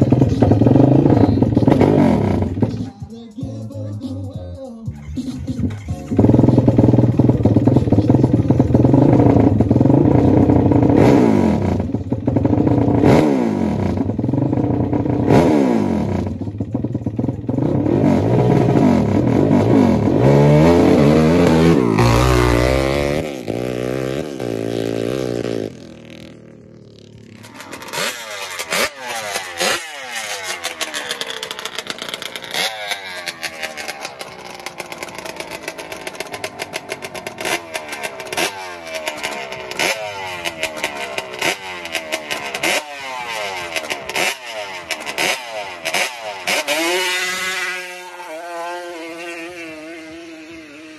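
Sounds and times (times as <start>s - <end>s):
atv engine revving and accelerating: 0.0s - 50.9s
quad engine idling with throttle blips: 0.0s - 50.9s.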